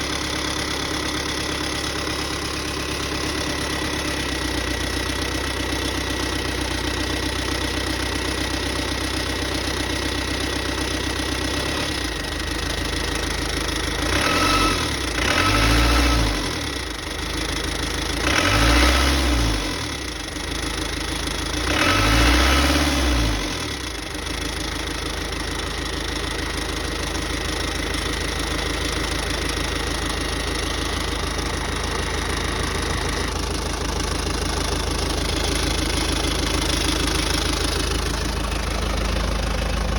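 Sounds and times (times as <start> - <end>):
van engine idling and revving: 0.0 - 39.9.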